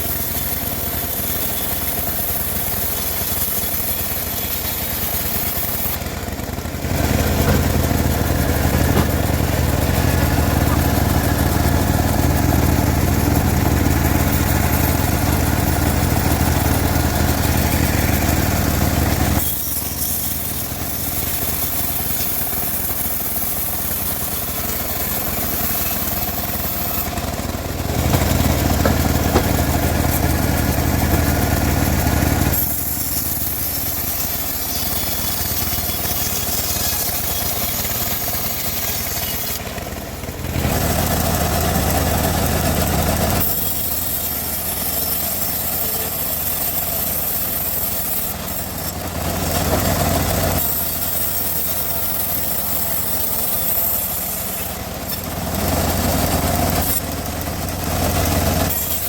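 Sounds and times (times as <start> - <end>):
saw blade hissing through log: 0.0 - 39.8, 40.5 - 59.0
bandsaw mill humming: 0.0 - 59.0.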